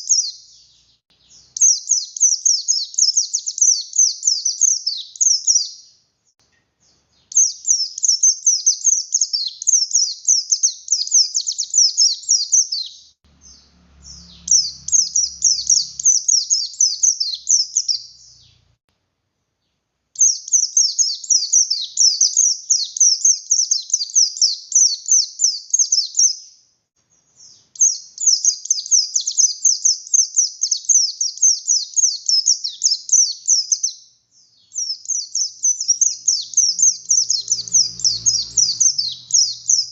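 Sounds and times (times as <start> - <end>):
bird twittering song: 0.0 - 18.8, 19.7 - 39.9.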